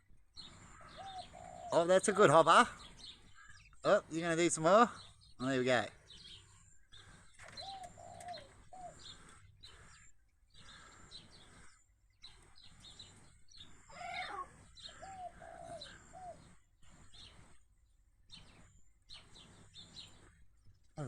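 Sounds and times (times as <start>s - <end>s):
sparrows chirping: 0.0s - 21.0s.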